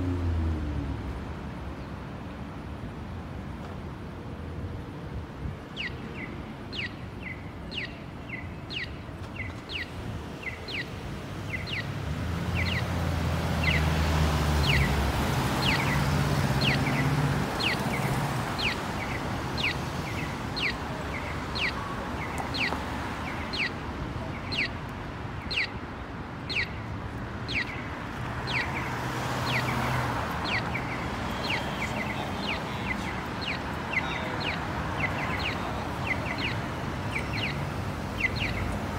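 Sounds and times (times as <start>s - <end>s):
crosswalk signal chirping: 0.0s - 38.9s
street traffic: 0.0s - 38.9s.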